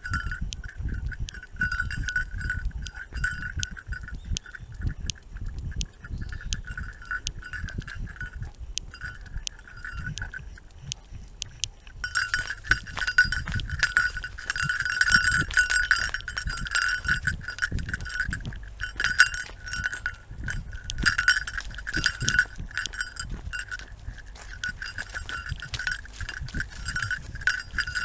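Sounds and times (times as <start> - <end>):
dog collar jingling: 0.0 - 11.0, 12.0 - 28.0.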